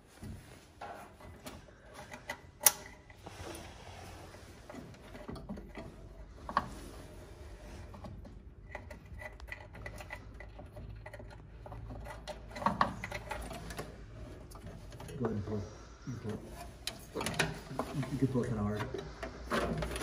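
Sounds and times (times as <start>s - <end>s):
tools and parts clicking and knocking: 0.2s - 3.2s, 4.7s - 6.8s, 7.8s - 15.4s, 16.5s - 20.0s.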